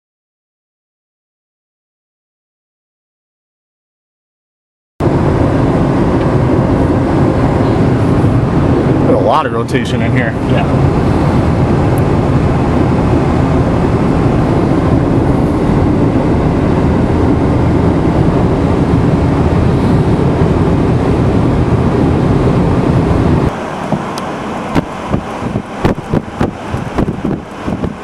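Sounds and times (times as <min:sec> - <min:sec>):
car cabin road rumble: 0:05.0 - 0:28.0
wind buffeting microphone: 0:05.0 - 0:28.0.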